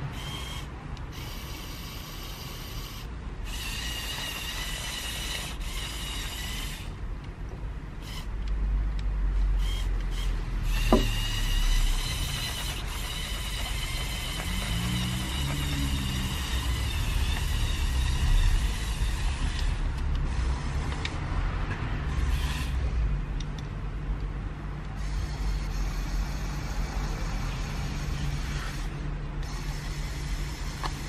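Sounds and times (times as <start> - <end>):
toy electric motors and gears: 0.0 - 23.7, 24.8 - 31.0.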